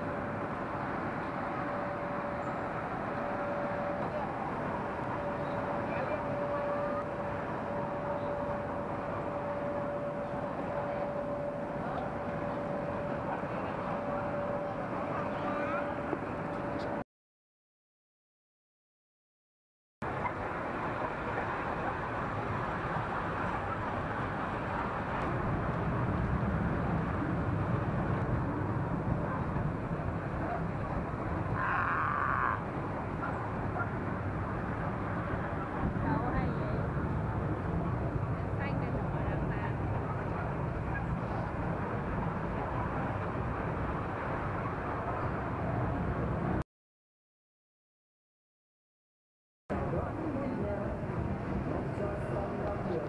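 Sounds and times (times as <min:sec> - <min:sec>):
train ride rolling on steel track: 0:00.0 - 0:17.0, 0:20.1 - 0:31.8, 0:32.4 - 0:46.6.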